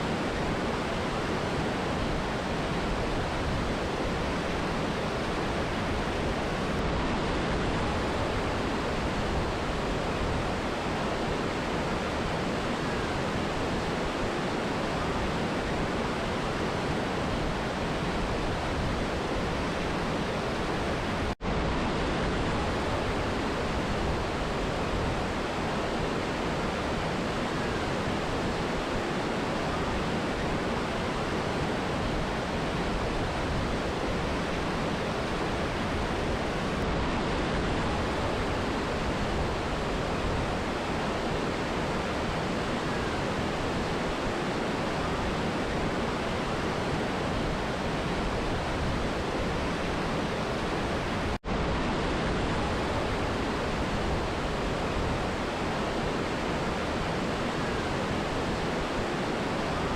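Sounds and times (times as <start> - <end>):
river and waterfall rushing: 0.0 - 59.9.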